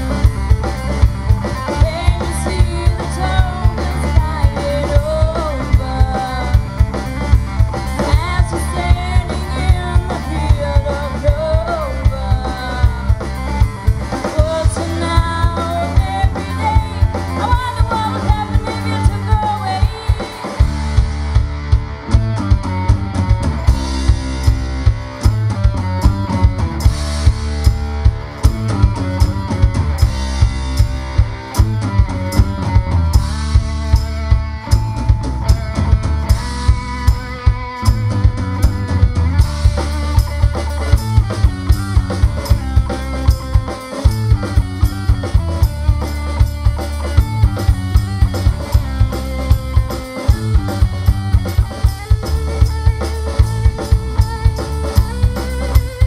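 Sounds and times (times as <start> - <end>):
drum kit fast beat: 0.0 - 56.0
live rock band playing: 0.0 - 56.0.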